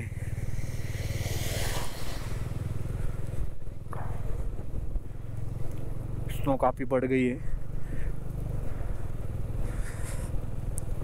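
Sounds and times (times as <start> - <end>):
wet road noise: 0.0 - 6.7, 7.5 - 11.0
motorcycle engine running: 0.0 - 11.0.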